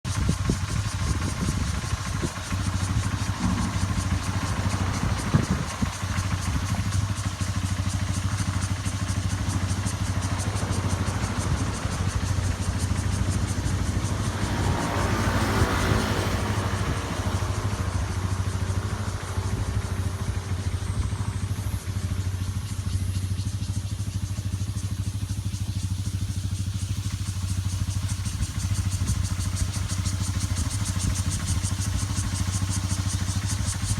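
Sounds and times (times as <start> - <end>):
engine running steadily: 0.0 - 33.9
insects calling: 0.1 - 33.9.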